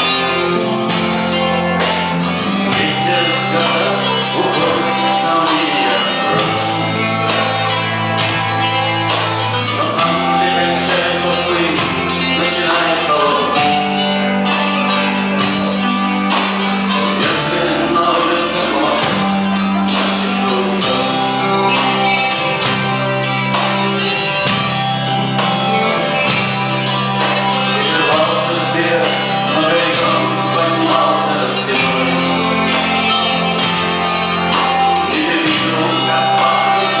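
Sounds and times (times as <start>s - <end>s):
person singing: 0.0s - 23.2s, 24.0s - 37.0s
bass guitar: 0.0s - 37.0s
drums: 0.0s - 37.0s
electric guitar: 0.0s - 37.0s.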